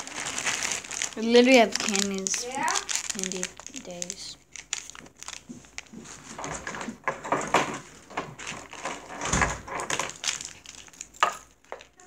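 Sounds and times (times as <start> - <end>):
rustling and knocking handling noise: 0.0 - 12.0.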